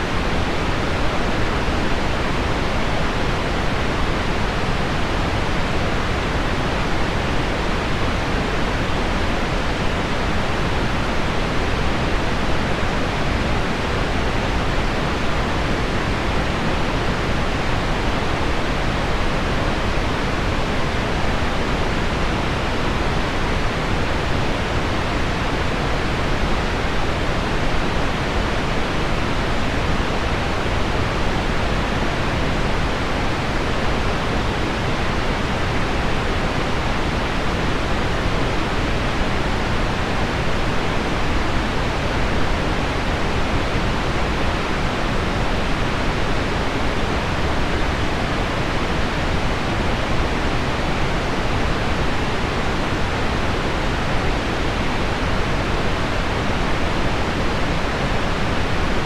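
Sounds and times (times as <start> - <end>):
pink noise: 0.0 - 59.0.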